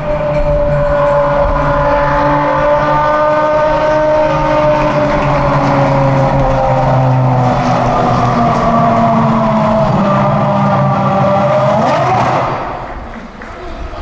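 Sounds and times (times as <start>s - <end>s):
racing car engine running: 0.0s - 13.6s.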